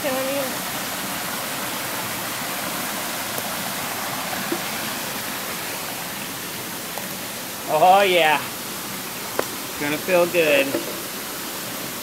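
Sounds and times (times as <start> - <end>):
spring water rushing and splashing: 0.0 - 12.0.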